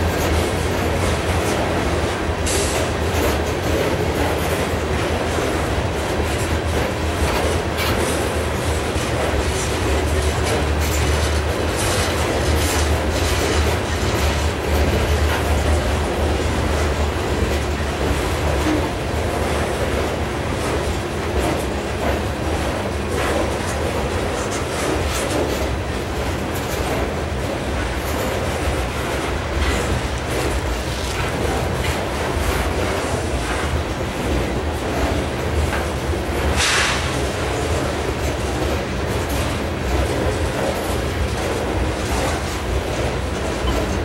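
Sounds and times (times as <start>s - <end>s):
freight train rumble: 0.0s - 44.0s
wheels clicking over rail joints: 0.0s - 44.0s.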